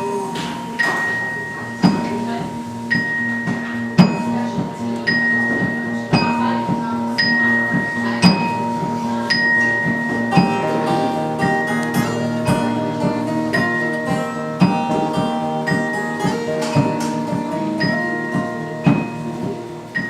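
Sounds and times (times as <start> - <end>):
bell-like guitar notes: 0.0 - 20.0
regular beat: 0.0 - 20.0.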